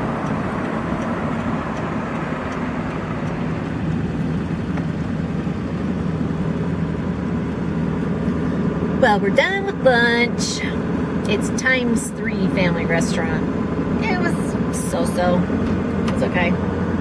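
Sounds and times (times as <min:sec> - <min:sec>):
road and engine noise in car cabin: 0:00.0 - 0:17.0.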